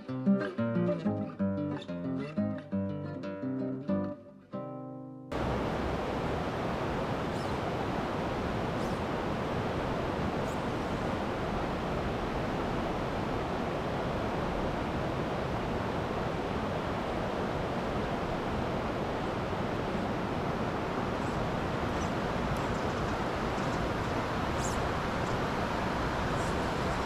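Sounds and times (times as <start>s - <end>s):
water rushing over rocks: 5.3s - 27.0s.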